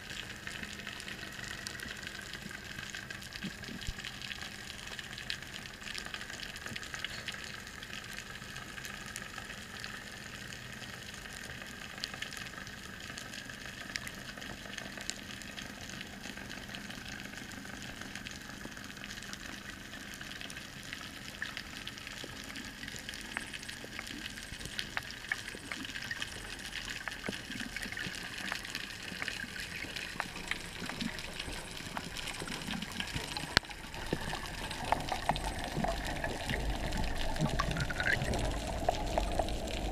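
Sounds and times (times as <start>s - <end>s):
faint crackling clicks: 0.0s - 39.9s.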